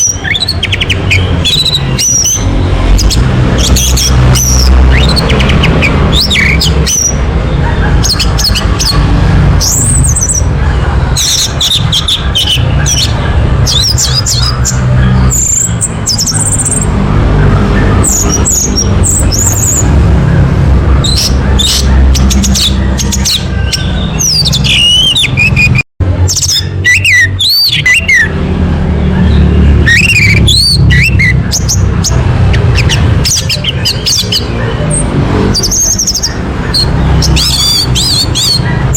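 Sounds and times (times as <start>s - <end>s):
thrush singing: 0.0s - 38.9s.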